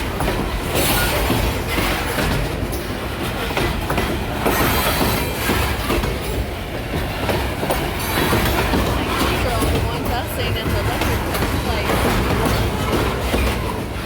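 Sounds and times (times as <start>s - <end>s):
freight train rumbling past: 0.0s - 14.0s
wheels clacking over rail joints: 0.0s - 14.0s.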